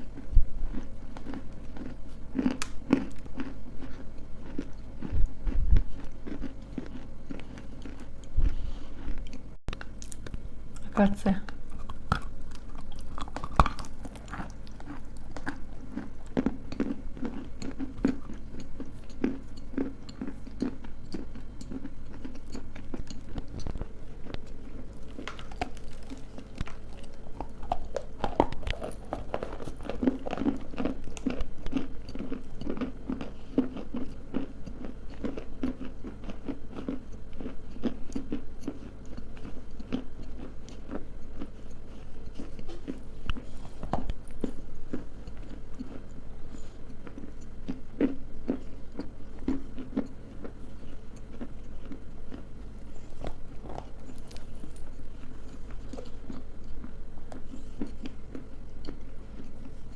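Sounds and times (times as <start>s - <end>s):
people chewing crunchy clay: 0.0s - 59.9s.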